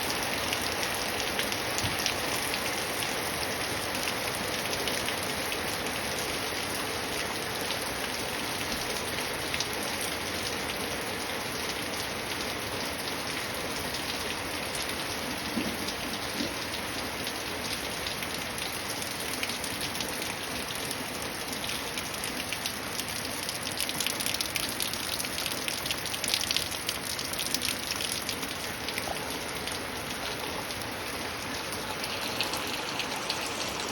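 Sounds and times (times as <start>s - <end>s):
steady rain falling: 0.0s - 33.9s
raindrops ticking on surface: 0.1s - 33.9s.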